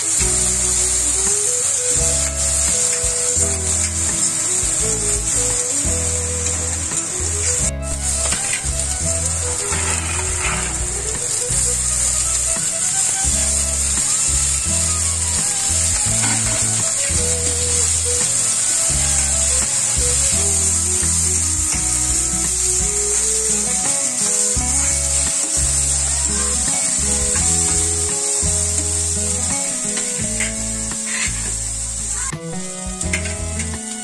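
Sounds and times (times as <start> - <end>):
instrumental music with bass line: 0.0 - 34.0
steady high hiss: 0.0 - 34.0.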